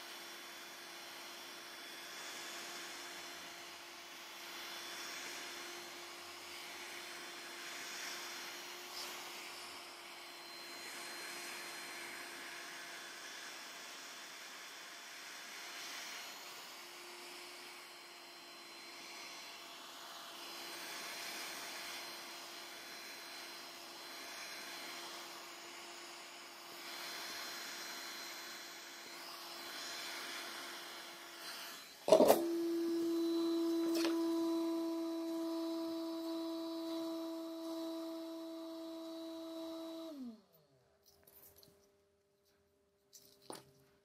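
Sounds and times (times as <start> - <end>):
small electric motor humming: 0.0 - 41.7.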